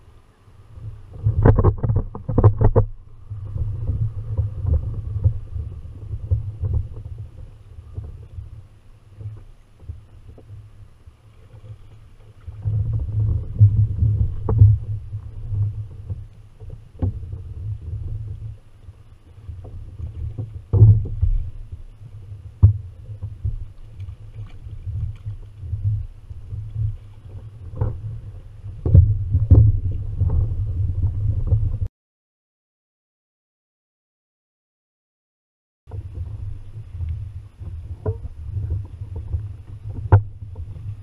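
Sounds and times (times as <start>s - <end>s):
low rumbling handling noise: 0.0s - 31.9s, 35.9s - 41.0s.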